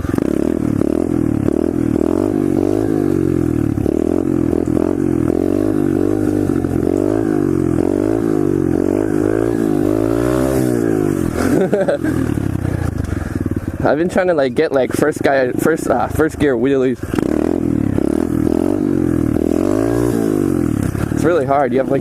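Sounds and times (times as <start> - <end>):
pit bike engine revving: 0.0 - 22.0.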